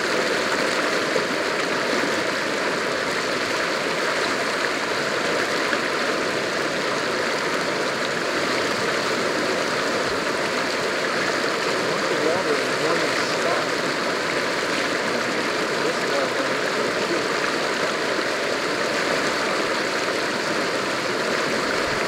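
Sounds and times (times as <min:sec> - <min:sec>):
whitewater rushing: 0:00.0 - 0:22.0.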